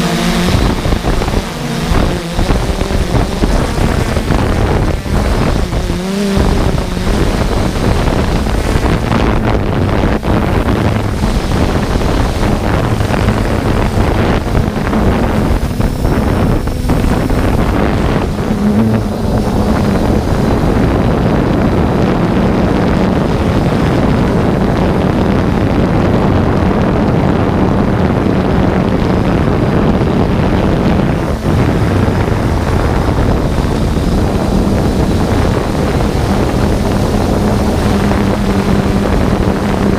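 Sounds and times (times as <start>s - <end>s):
drone rotor noise: 0.0s - 39.9s
faint low motor hum: 0.0s - 39.9s
rushing wind: 0.0s - 39.9s.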